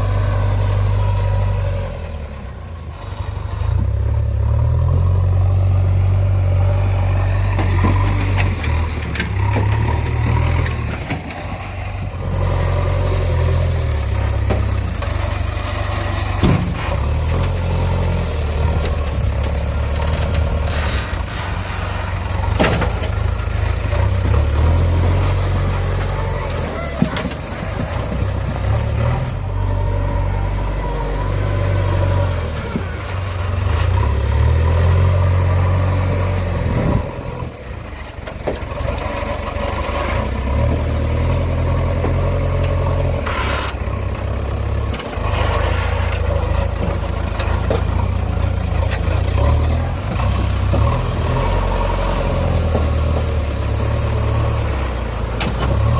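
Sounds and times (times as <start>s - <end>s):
diesel engine under load: 0.0s - 55.9s.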